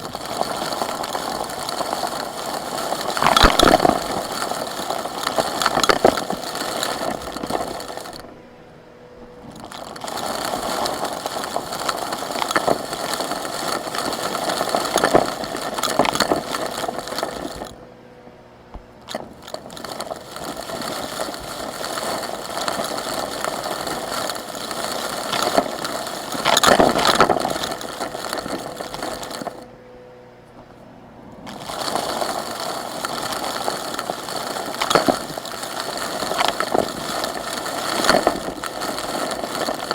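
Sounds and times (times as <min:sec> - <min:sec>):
vacuum cleaner sucking up rocks: 0:00.0 - 0:17.9, 0:18.8 - 0:29.7, 0:31.3 - 0:39.9.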